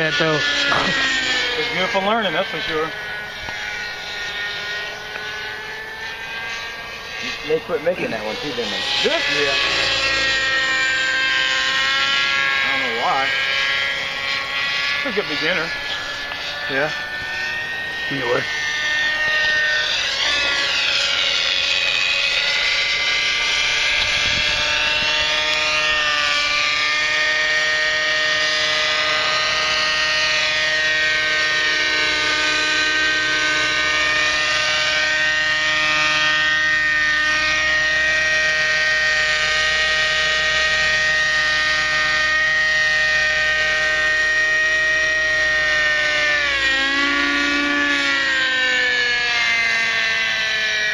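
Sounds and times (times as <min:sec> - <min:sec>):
model helicopter engine whine: 0:00.0 - 0:50.9.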